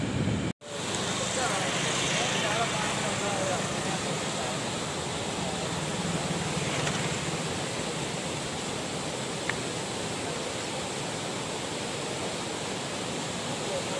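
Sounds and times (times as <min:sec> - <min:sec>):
floodwater rushing: 0:00.6 - 0:13.9.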